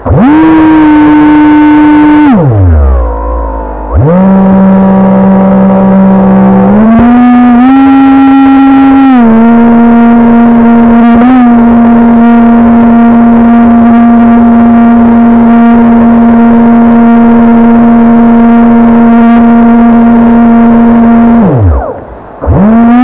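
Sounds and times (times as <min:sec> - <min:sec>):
electric motor whining: 0:00.0 - 0:23.0.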